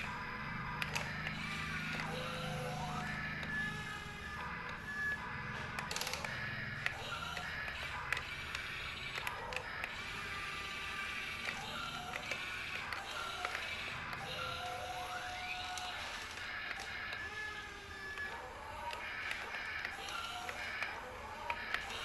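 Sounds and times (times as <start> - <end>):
sharp clicks: 0.0 - 3.7, 4.3 - 10.1, 11.0 - 14.4, 15.0 - 22.0
toy motors and gearboxes ratcheting: 0.0 - 22.0.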